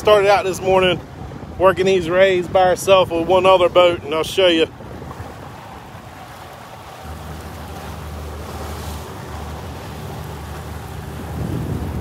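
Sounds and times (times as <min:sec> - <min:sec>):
boat engine humming: 0:00.0 - 0:12.0
water noise: 0:00.0 - 0:12.0
wind on microphone: 0:00.0 - 0:12.0.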